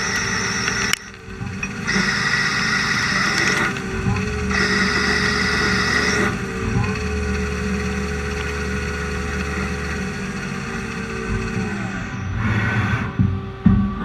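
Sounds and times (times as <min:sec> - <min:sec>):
lathe running with whine: 0:00.0 - 0:13.8
high-pitched whine: 0:00.0 - 0:14.0
low hum: 0:00.0 - 0:14.0.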